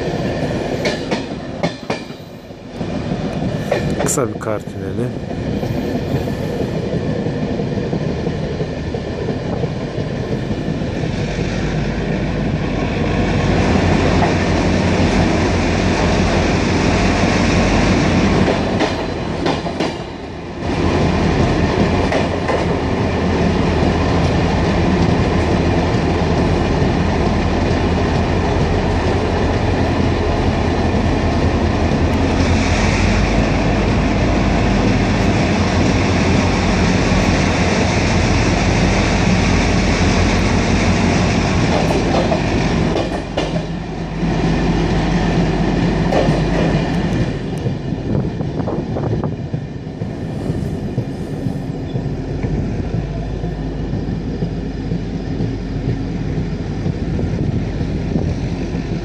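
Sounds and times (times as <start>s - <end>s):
train wheels clattering over rail joints: 0.0s - 4.4s, 13.3s - 59.0s
train low rumble: 0.0s - 59.0s.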